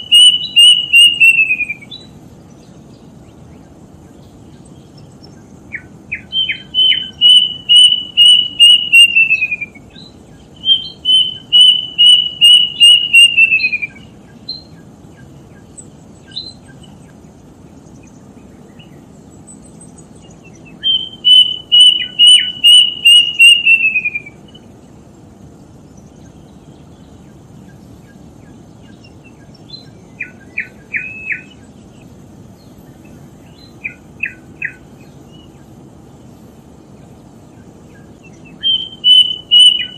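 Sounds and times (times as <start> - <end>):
bird whistling notes: 0.0 - 3.4, 4.1 - 17.1, 17.8 - 24.7, 26.0 - 35.7, 37.6 - 39.9.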